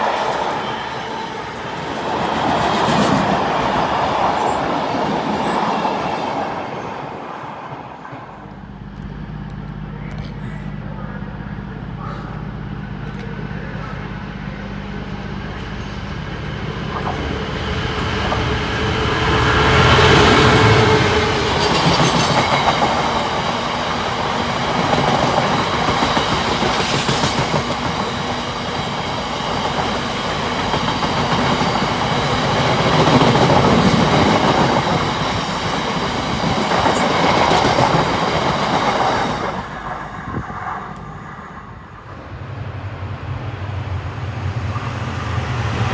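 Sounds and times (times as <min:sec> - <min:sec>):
locomotive passing: 0:00.0 - 0:45.9.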